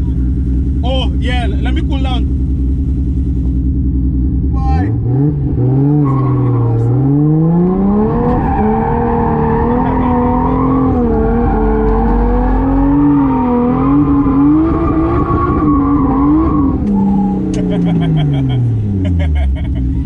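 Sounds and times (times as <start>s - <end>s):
car engine driving: 0.0s - 20.0s.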